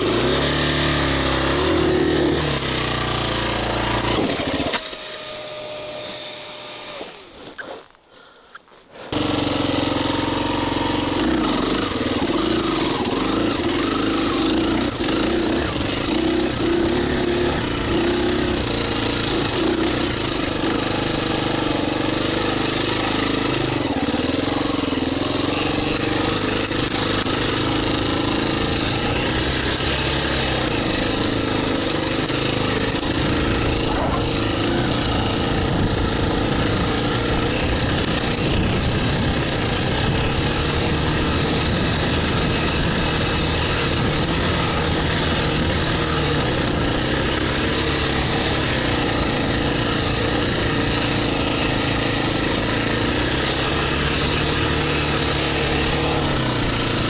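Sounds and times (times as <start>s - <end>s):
dirt bike engine revving: 0.0s - 7.4s, 9.0s - 57.0s.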